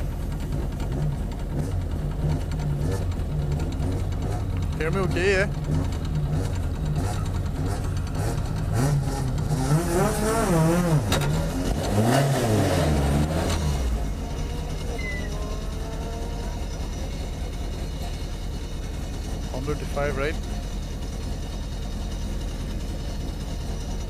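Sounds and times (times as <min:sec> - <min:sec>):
car engine idling with revs: 0:00.0 - 0:24.0.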